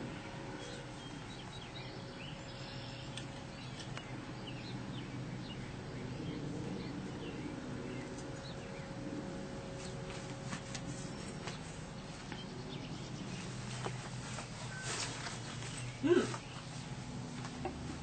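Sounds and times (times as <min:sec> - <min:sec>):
small birds chirping: 0:00.0 - 0:17.8
low background noise: 0:00.0 - 0:18.0.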